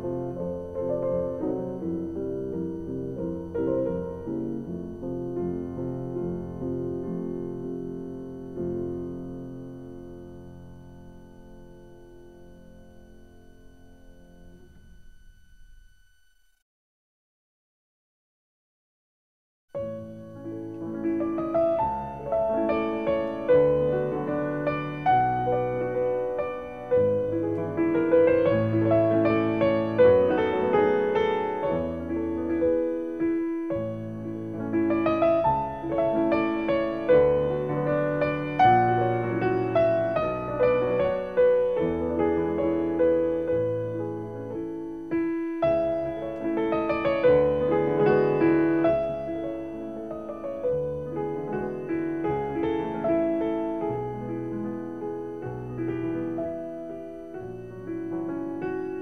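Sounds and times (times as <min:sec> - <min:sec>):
slow piano music: 0:00.0 - 0:16.6, 0:19.8 - 0:59.0.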